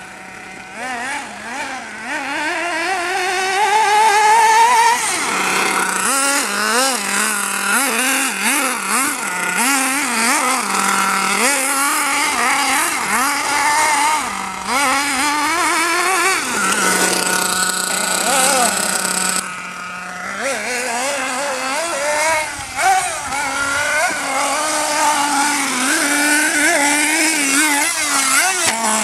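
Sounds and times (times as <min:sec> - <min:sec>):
model engine revving: 0:00.0 - 0:29.0.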